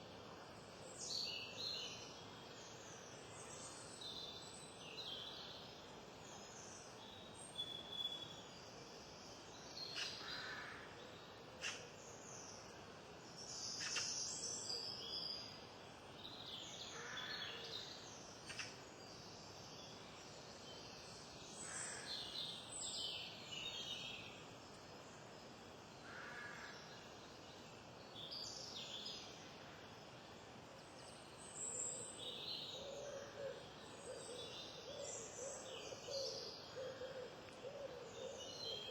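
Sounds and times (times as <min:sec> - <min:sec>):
outdoor background hiss: 0:00.0 - 0:38.9.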